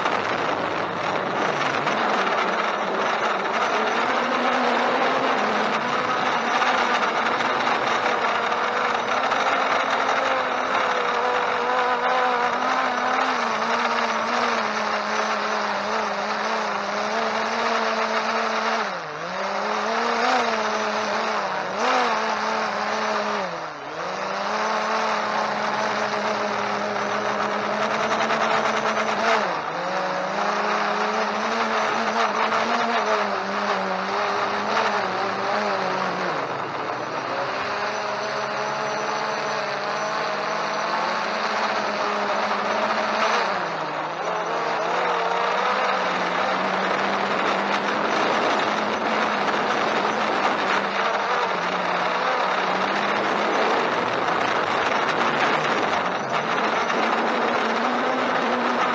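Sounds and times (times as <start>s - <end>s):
quadcopter propellers whining: 0.0s - 58.9s.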